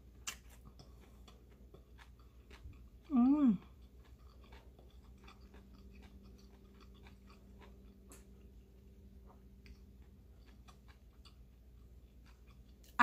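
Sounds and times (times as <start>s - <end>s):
chewing noodles: 0.0s - 13.0s.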